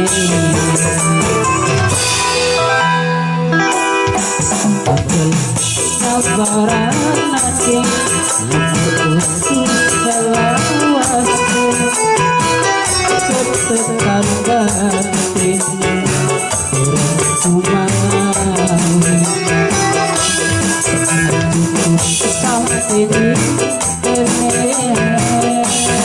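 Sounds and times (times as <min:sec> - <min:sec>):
man singing into a microphone: 0:00.0 - 0:02.0, 0:04.5 - 0:26.0
hand drums: 0:00.0 - 0:02.6, 0:04.0 - 0:26.0
electronic keyboard: 0:00.0 - 0:26.0
guitar: 0:00.0 - 0:26.0.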